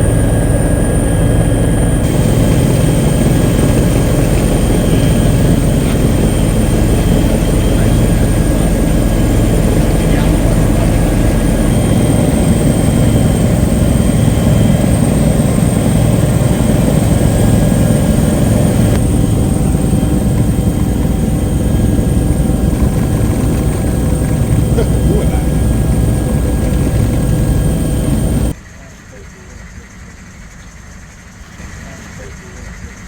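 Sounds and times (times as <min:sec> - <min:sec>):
faint high whine: 0:00.0 - 0:28.5
helicopter rotor and engine: 0:00.0 - 0:33.0.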